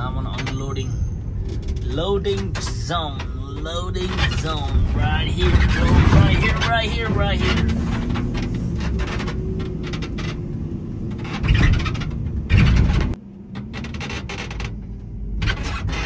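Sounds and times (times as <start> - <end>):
vehicle engine and road hum: 0.0 - 16.0.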